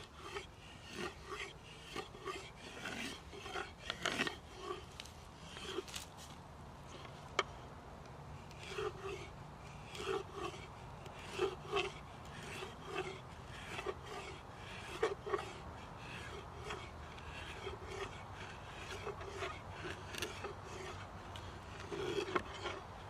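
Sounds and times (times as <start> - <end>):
hand tool rasping on wood: 0.0 - 6.3, 8.4 - 23.0.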